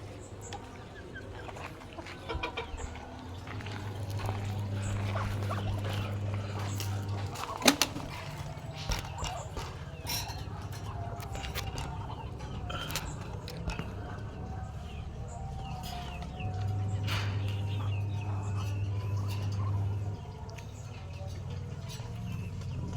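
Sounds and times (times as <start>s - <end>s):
chickens clucking: 0.0s - 22.9s
low hum: 0.0s - 22.9s.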